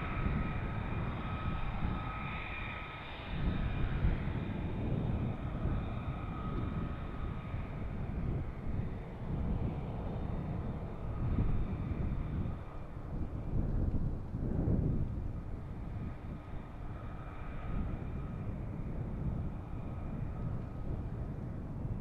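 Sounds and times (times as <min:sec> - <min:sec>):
distant jet engine rumble: 0:00.0 - 0:22.0.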